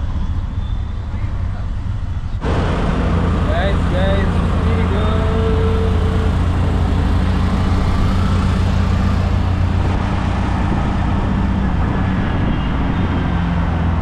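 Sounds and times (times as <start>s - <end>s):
car engine rumble: 0.0s - 14.0s
road noise: 0.0s - 14.0s.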